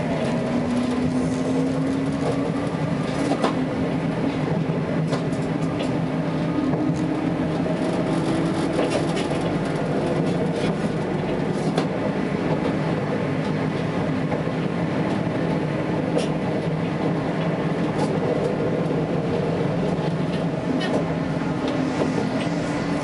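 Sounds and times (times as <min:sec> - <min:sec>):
tram wheels rumbling on rails: 0:00.0 - 0:23.0.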